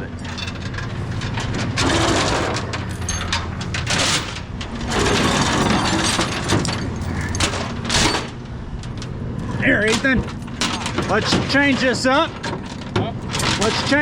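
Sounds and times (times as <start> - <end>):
chain clinking and rattling: 0.0 - 14.0
engine running: 0.0 - 14.0.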